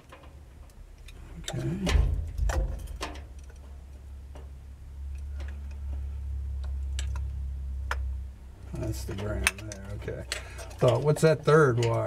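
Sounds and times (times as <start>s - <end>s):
clicks and taps of wiring: 0.0s - 8.1s, 8.9s - 12.0s
steady low hum: 0.0s - 12.0s.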